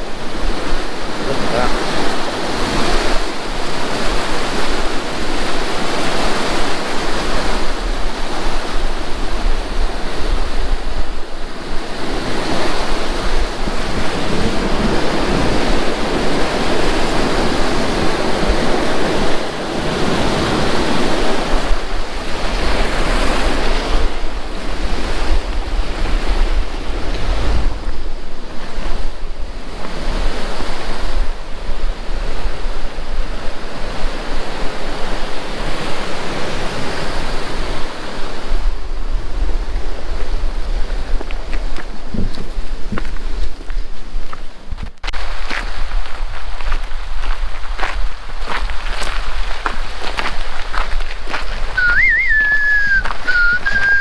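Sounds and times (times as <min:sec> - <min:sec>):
stream water rushing: 0:00.0 - 0:54.0
wind on microphone: 0:00.0 - 0:54.0.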